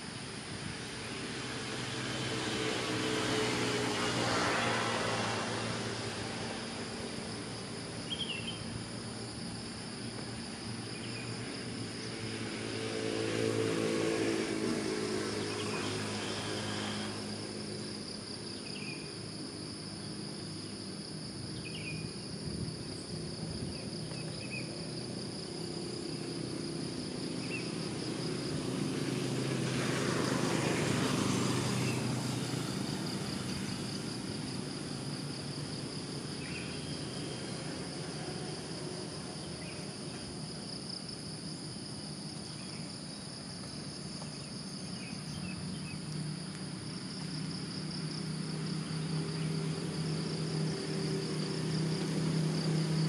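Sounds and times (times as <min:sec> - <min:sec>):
insects droning: 0:00.0 - 0:53.0
motor vehicle passing: 0:00.6 - 0:21.2, 0:24.9 - 0:53.0.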